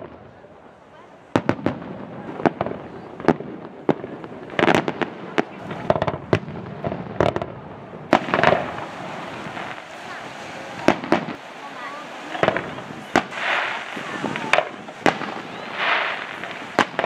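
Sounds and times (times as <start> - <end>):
firework shells bursting: 2.5 - 17.0.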